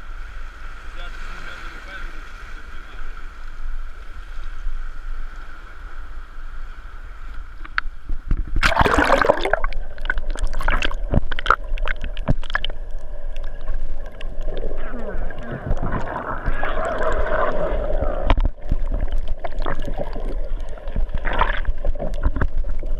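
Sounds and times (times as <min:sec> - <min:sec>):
sea surf washing: 0:00.0 - 0:22.9
underwater splashing and gurgling: 0:00.0 - 0:22.9.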